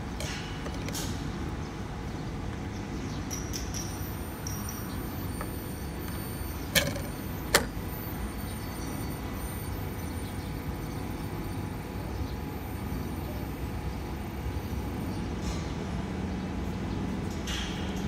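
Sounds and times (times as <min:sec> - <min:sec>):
steady low background hum: 0:00.0 - 0:18.0.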